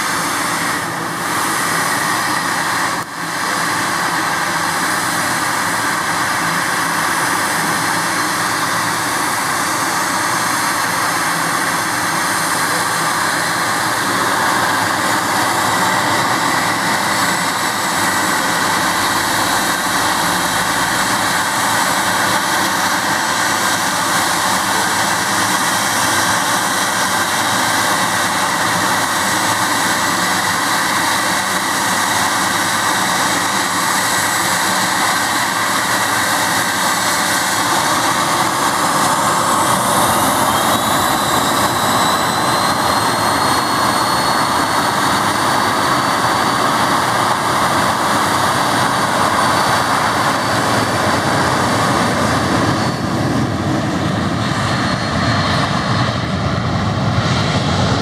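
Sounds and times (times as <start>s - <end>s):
jet engines running: 0.0s - 58.0s
rising engine whine: 0.0s - 58.0s.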